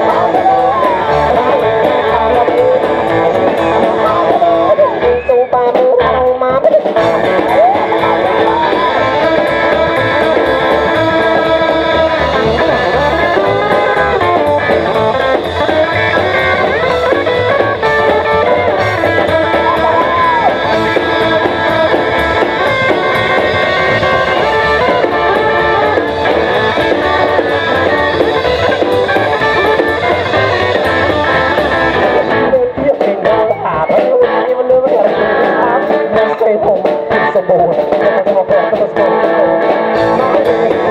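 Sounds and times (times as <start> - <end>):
upright double bass: 0.0 - 5.2, 6.0 - 33.8
drum kit: 0.0 - 40.9
electric guitar bent notes: 0.0 - 40.9.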